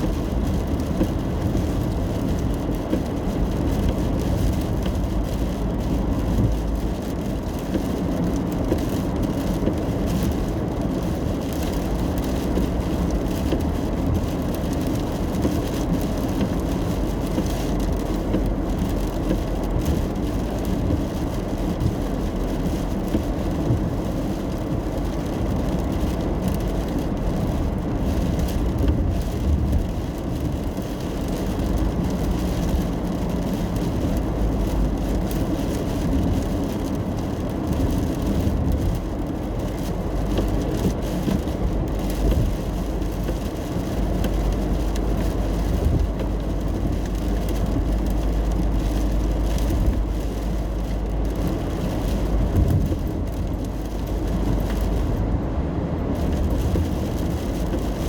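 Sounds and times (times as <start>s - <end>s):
rain on car: 0.0s - 58.0s
road and engine noise in cabin: 0.0s - 58.0s.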